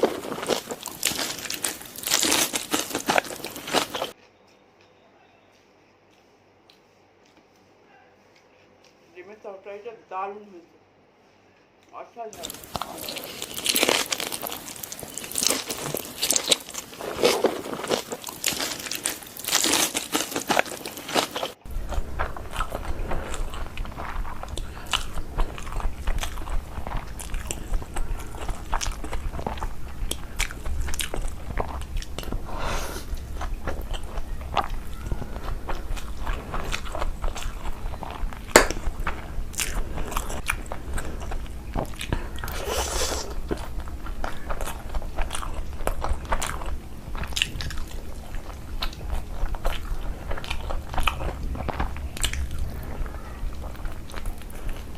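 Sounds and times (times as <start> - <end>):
crunchy bites and chewing: 0.0 - 4.2, 12.4 - 54.9
low steady hum: 0.0 - 54.9.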